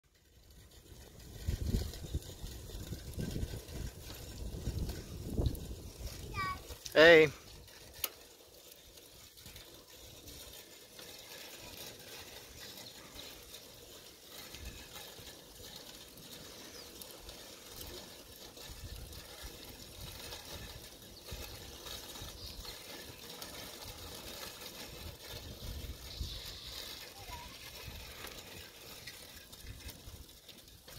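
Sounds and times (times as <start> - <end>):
bicycles rolling on asphalt: 0.0 - 30.9
light mechanical rattle: 0.1 - 30.9.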